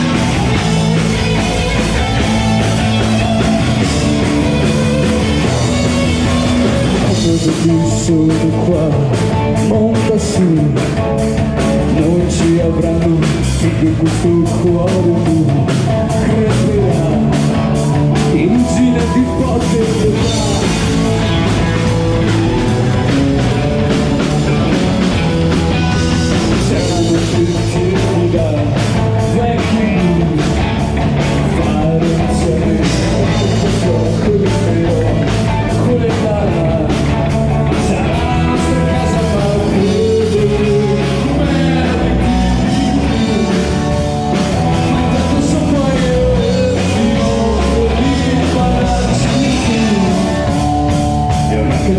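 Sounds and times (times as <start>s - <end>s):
drum kit beat: 0.0s - 51.9s
electric guitar: 0.0s - 51.9s.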